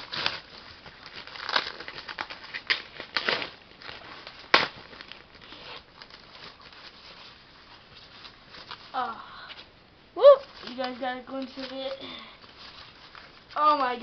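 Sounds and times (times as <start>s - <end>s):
packaging rustling and crinkling: 0.0s - 9.7s, 10.3s - 14.0s.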